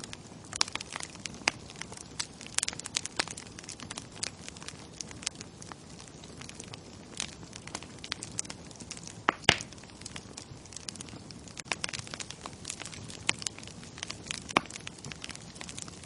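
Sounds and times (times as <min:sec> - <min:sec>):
bonfire crackling and popping: 0:00.0 - 0:16.0
low fire hiss: 0:00.0 - 0:16.0.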